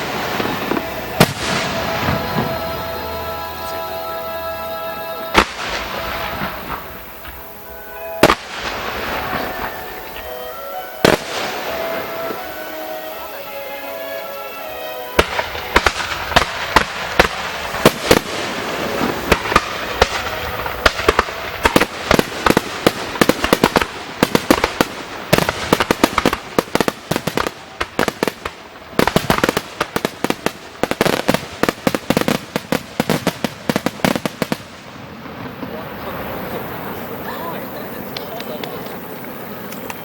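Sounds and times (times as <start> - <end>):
fireworks bangs and crackles: 0.0 - 3.8, 5.0 - 40.0.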